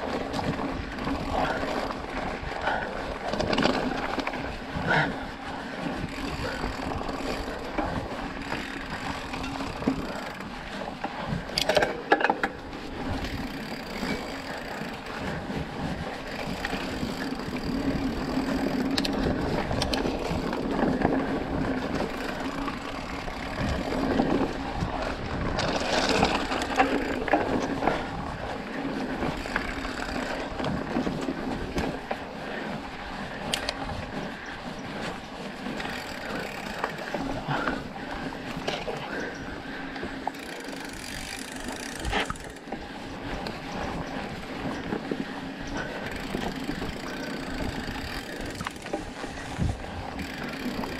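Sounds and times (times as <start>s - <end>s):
bike rattling over bumps: 0.0s - 50.9s
bike tyres rolling over dirt: 0.0s - 50.9s.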